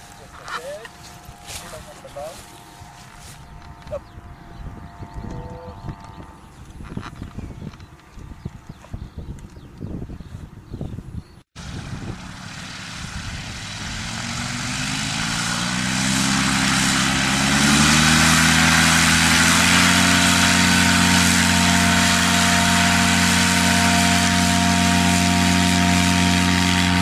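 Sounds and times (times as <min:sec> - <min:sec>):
paramotor engine and propeller: 0:00.0 - 0:10.7, 0:11.6 - 0:27.0.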